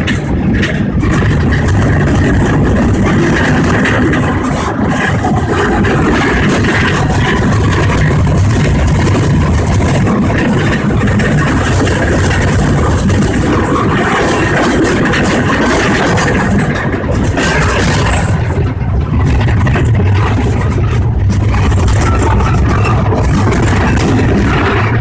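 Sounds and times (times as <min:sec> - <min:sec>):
vehicle running noise: 0:00.0 - 0:25.0.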